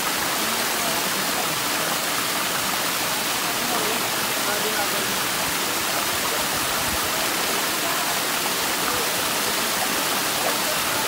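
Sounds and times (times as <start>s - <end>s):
waterfall pouring over rocks: 0.0s - 11.0s.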